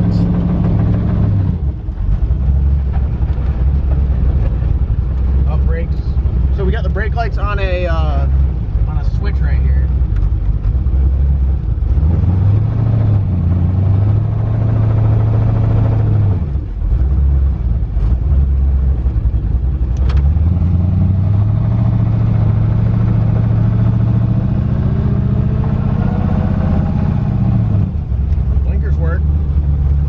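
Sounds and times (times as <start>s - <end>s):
car exhaust drone: 0.0s - 30.0s.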